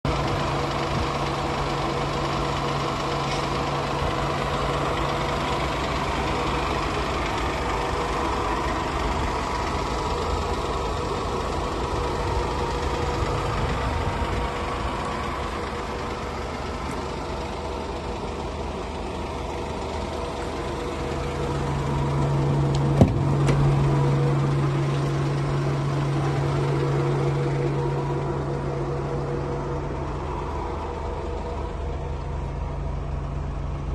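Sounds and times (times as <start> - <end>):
van engine idling: 0.0 - 33.9.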